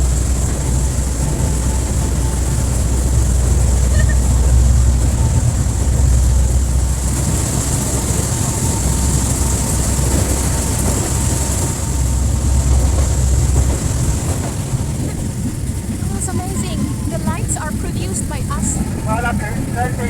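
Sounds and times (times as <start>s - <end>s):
rail cart low rumble: 0.0s - 20.0s.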